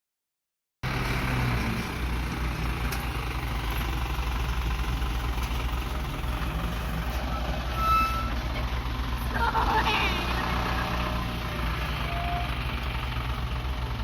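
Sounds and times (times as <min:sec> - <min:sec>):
heavy diesel engine rumbling: 0:00.8 - 0:14.0.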